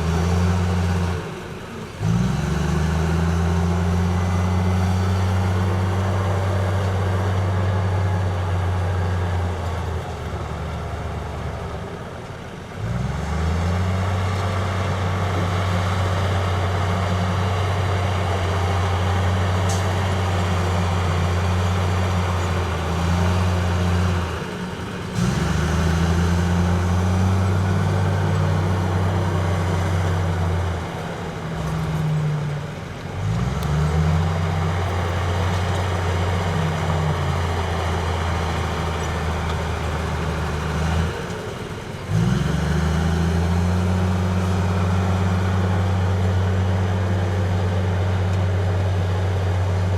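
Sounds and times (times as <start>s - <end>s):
heavy diesel engine revving: 0.0s - 49.9s.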